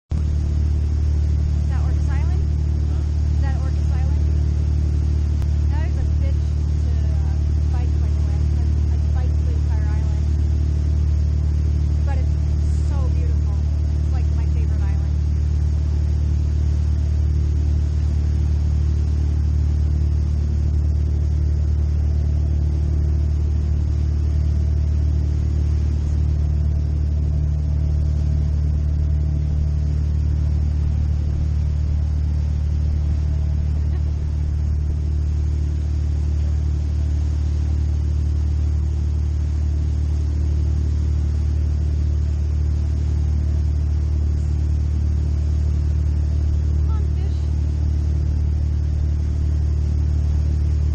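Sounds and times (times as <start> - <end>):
boat engines droning: 0.1 - 50.9.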